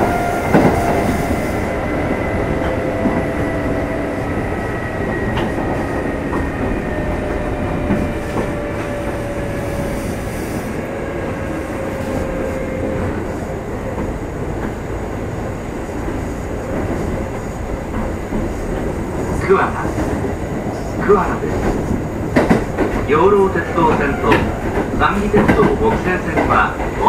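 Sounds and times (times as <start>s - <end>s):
train running rumble: 0.0s - 27.0s.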